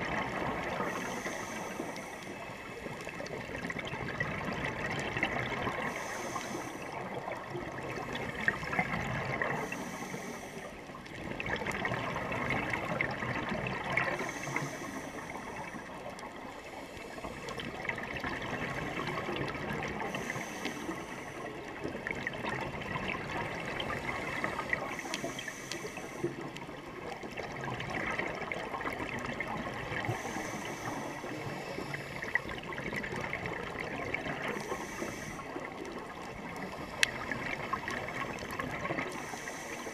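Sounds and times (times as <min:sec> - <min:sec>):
exhaled bubbles underwater: 0:00.0 - 0:39.9
steady watery hiss: 0:00.0 - 0:39.9
faint ticks: 0:00.1 - 0:39.9.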